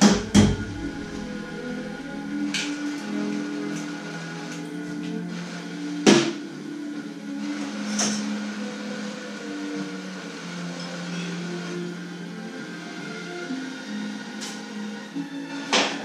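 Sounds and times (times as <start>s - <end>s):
background music low notes: 0.0s - 16.0s.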